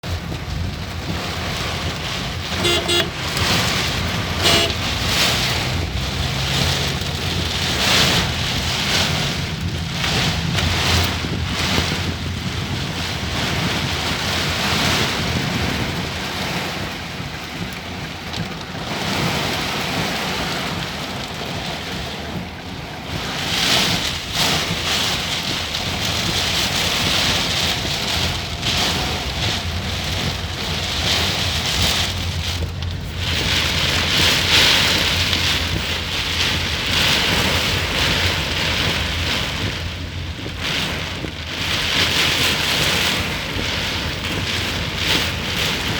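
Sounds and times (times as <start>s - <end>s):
heavy rain: 0.0s - 45.9s
wind buffeting microphone: 0.0s - 45.9s.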